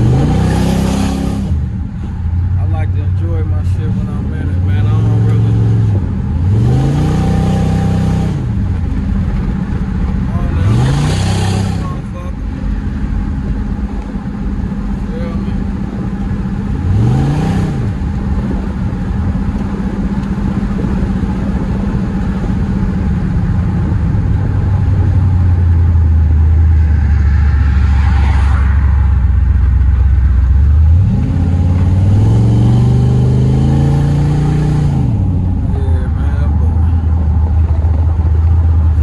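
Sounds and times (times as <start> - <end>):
car engine revving and droning: 0.0 - 39.0.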